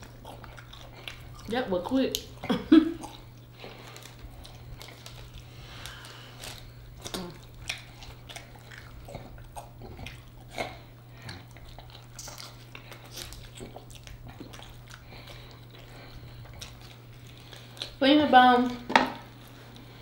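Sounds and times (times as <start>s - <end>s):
people chewing chicken wings: 0.0s - 20.0s
steady low hum: 0.0s - 20.0s.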